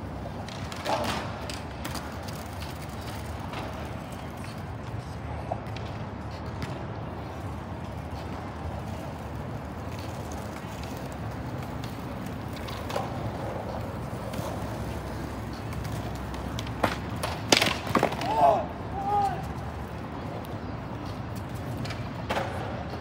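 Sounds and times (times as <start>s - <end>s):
low city rumble: 0.0s - 23.0s.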